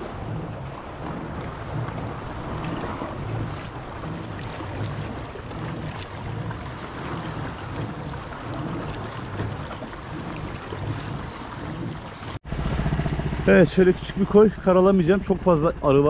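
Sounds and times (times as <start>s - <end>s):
sea water washing: 0.0s - 16.0s
wind buffeting microphone: 0.0s - 16.0s.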